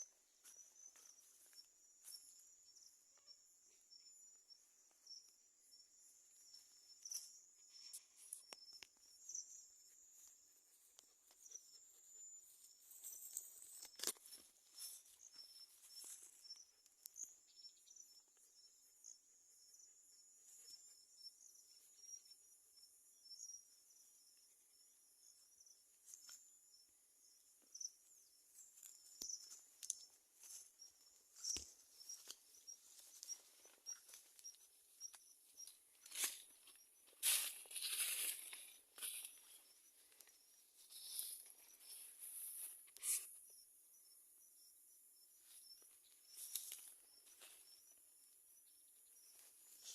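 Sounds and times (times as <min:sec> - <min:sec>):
insects chirping: 0:00.0 - 0:49.9.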